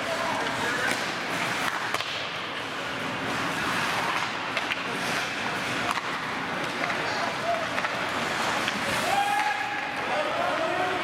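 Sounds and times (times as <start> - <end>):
hockey sticks and puck clacking: 0.0 - 11.0
skate blades scraping ice: 0.0 - 11.0.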